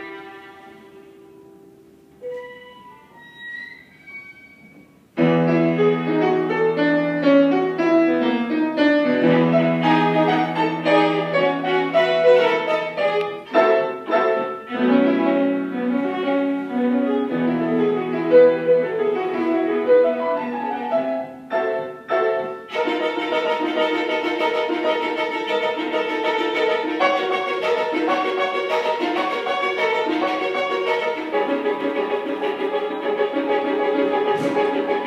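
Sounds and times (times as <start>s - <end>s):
grand piano playing: 0.0s - 35.0s
violin playing: 0.0s - 35.0s.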